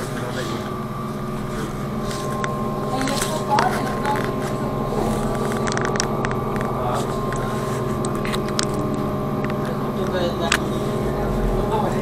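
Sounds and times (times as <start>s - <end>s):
electric drive hum: 0.0s - 12.0s.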